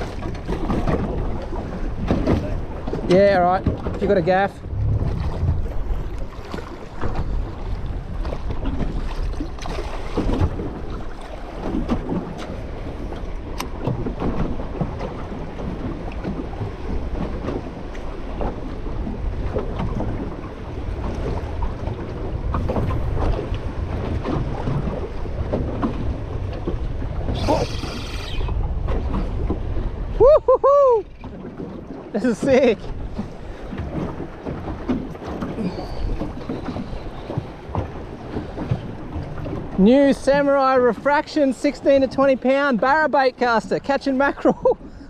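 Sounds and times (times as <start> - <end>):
waves slapping against boat: 0.0 - 45.0
wind buffeting microphone: 0.0 - 45.0.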